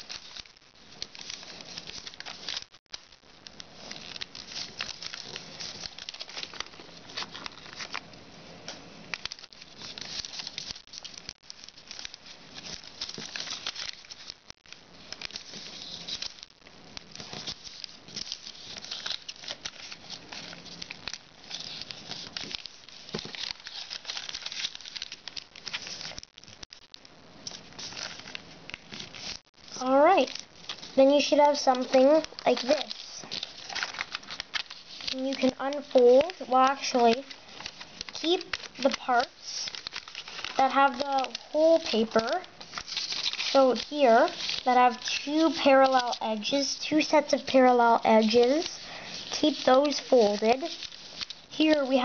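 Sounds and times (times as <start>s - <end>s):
foil paper crinkling: 0.0s - 52.0s.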